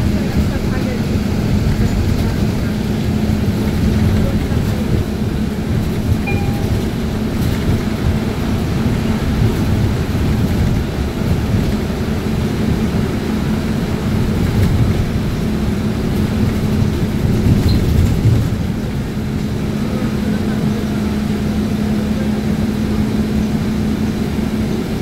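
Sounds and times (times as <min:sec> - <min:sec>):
bus engine and tyres rumbling: 0:00.0 - 0:25.0.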